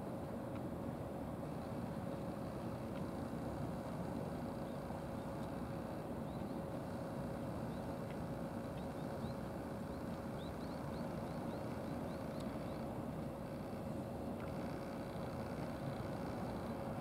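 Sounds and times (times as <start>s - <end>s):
faint steady hum: 0.0s - 17.0s
outdoor background rumble: 0.0s - 17.0s.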